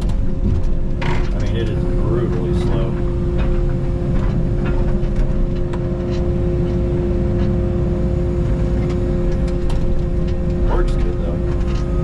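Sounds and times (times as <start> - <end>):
excavator diesel engine running: 0.0 - 12.0
steady whine: 0.0 - 12.0.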